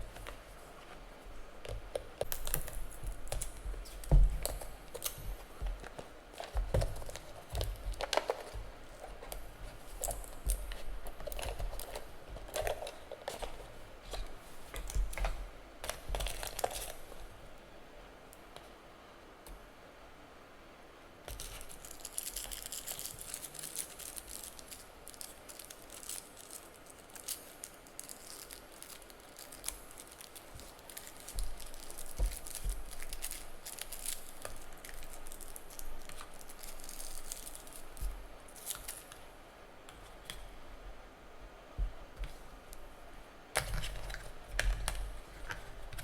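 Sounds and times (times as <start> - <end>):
plastic and paper packaging rustling: 0.0 - 17.4, 21.3 - 39.3, 43.6 - 46.0.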